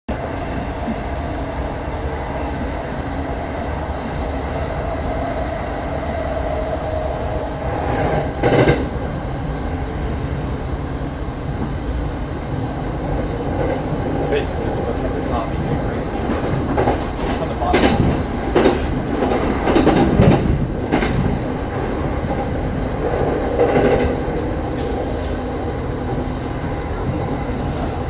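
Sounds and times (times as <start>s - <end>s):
train rumbling on rails: 0.1s - 28.0s.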